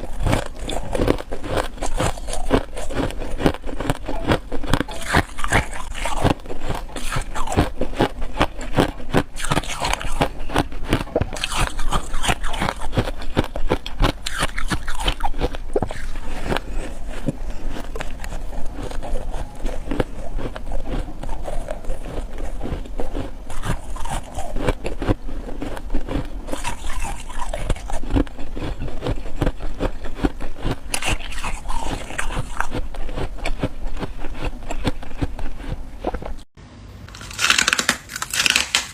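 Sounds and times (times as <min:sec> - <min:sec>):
ice being chewed: 0:00.0 - 0:36.5.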